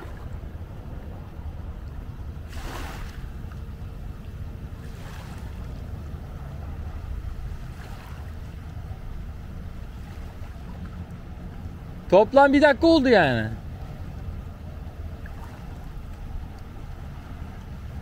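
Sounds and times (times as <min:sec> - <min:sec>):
wind rumbling on microphone: 0:00.0 - 0:12.2, 0:13.6 - 0:18.0
waves washing in: 0:00.0 - 0:18.0.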